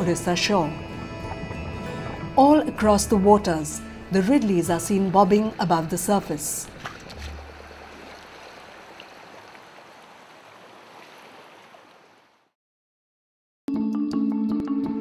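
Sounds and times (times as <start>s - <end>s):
waves lapping and sloshing: 0.0s - 12.5s.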